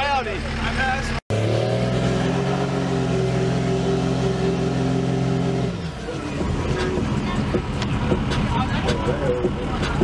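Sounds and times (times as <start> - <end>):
diesel engine revving: 0.3 - 10.0.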